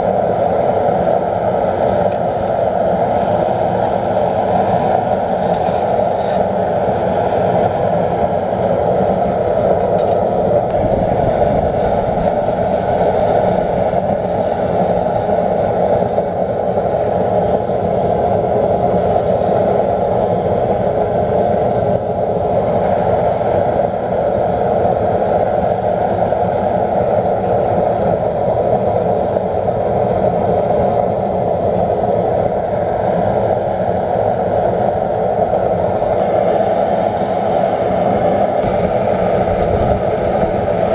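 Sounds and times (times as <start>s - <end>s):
furnace burner roaring: 0.0s - 40.9s.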